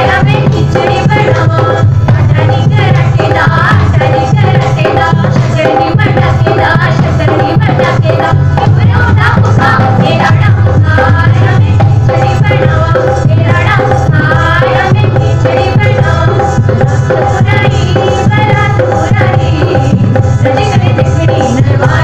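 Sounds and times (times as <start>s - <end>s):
steady drum accompaniment: 0.0s - 22.0s.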